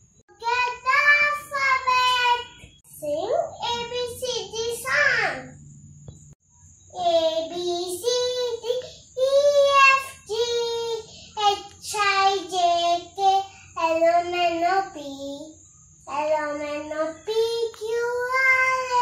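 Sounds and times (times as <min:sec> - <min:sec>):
girl singing unaccompanied: 0:00.3 - 0:05.6, 0:06.9 - 0:19.0.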